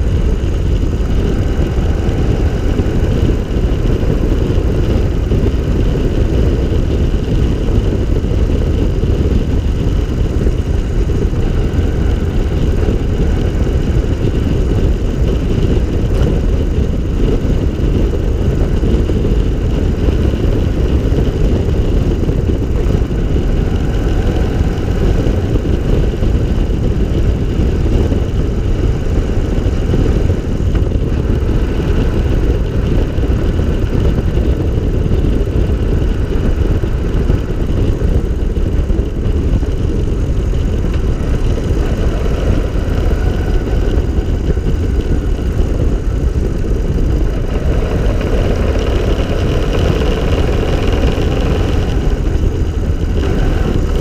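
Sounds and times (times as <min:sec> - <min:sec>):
trike engine running: 0:00.0 - 0:54.0
wind rumble on microphone: 0:00.0 - 0:54.0.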